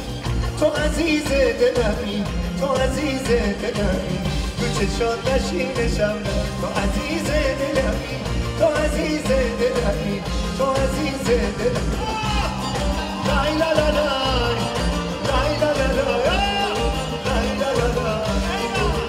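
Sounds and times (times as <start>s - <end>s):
male singer: 0.0s - 19.0s
pop band playing upbeat song: 0.0s - 19.0s.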